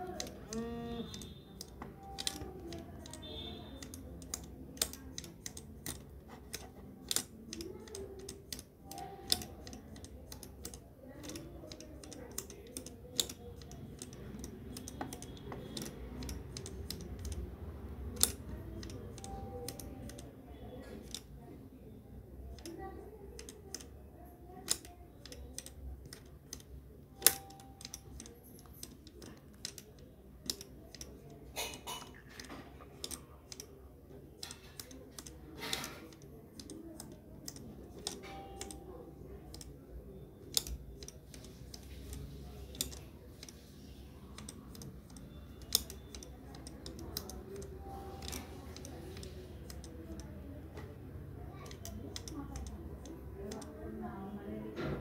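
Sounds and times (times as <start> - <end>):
abacus beads clicking: 0.0 - 21.4, 22.5 - 50.4, 51.0 - 54.0.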